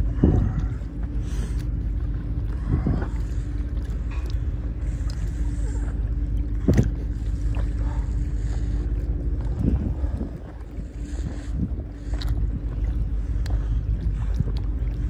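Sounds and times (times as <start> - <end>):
faint steady hum: 0.0 - 15.0
water splashing around a kayak: 0.0 - 15.0
wind rumble on microphone: 0.0 - 15.0.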